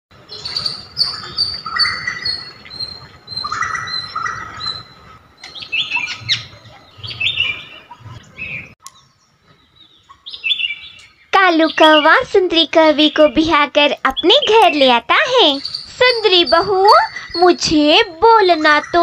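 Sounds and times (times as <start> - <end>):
birds chirping and singing: 0.2 - 19.0.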